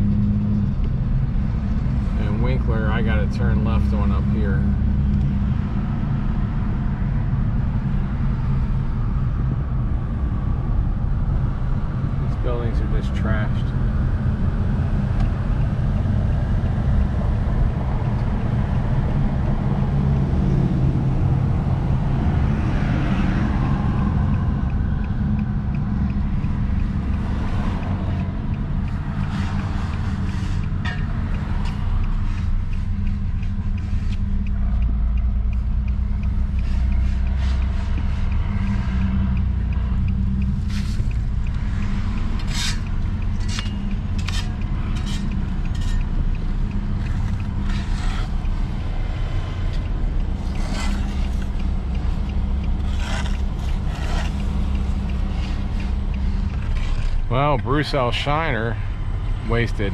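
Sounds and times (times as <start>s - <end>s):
engine and road noise rumble: 0.0s - 59.9s.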